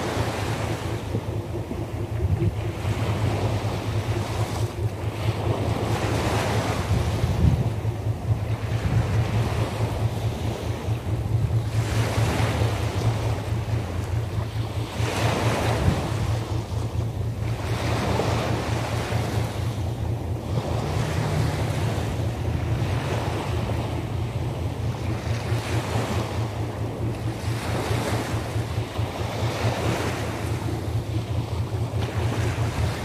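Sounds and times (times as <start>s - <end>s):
sea waves breaking on shore: 0.0s - 33.0s
steady low rumble: 0.0s - 33.0s.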